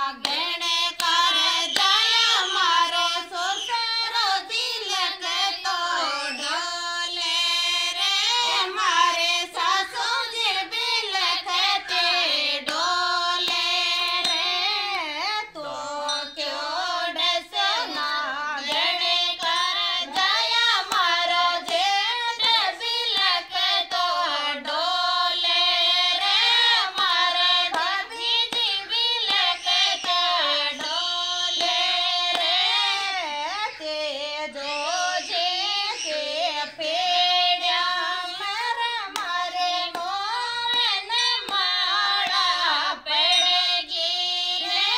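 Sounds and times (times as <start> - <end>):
woman singing folk song: 0.0 - 44.9.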